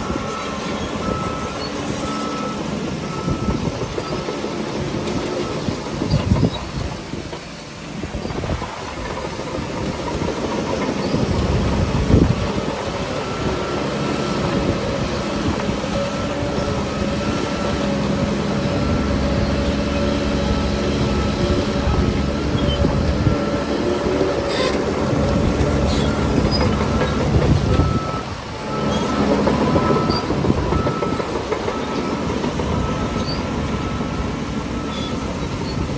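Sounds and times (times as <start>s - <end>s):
bulldozer diesel engine running: 0.0s - 35.9s.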